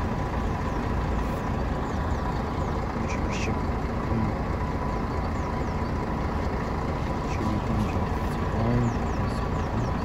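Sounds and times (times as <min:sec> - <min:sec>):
bus diesel engine idling: 0:00.0 - 0:10.0.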